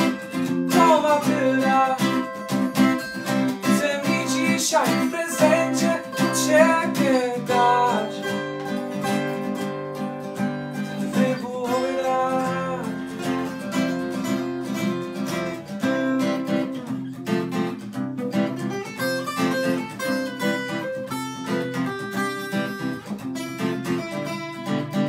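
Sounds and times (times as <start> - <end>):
acoustic guitars playing: 0.0 - 25.0.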